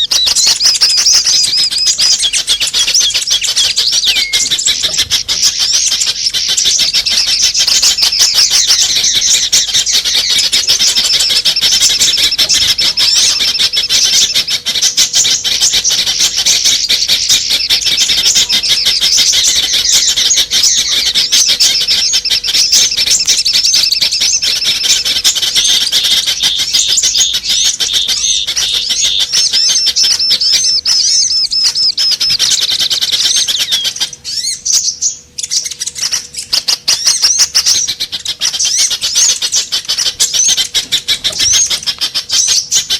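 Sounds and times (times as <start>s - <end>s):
faint steady hum: 0.0s - 42.9s
songbirds twittering: 0.0s - 42.9s.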